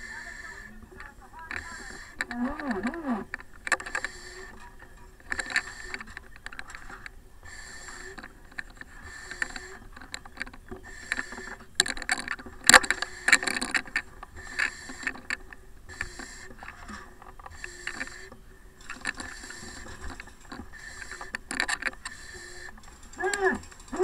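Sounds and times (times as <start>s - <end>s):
breathing through face mask: 0.0s - 0.8s, 1.5s - 4.6s, 5.3s - 10.1s, 10.8s - 24.0s
regulator hissing: 0.0s - 24.0s.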